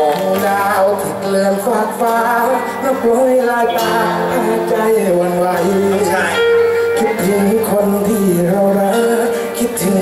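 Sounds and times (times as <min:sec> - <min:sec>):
song with singing voice: 0:00.0 - 0:10.0.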